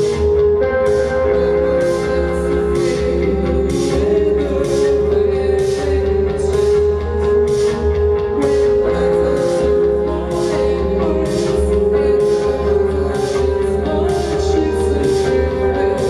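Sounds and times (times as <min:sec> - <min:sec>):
heavy bass: 0:00.0 - 0:16.0
live band playing: 0:00.0 - 0:16.0.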